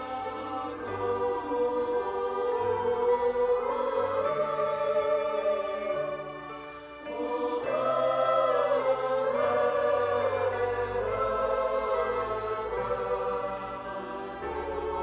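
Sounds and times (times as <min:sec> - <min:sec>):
choir singing long held notes: 0:00.0 - 0:15.0
music: 0:00.0 - 0:15.0.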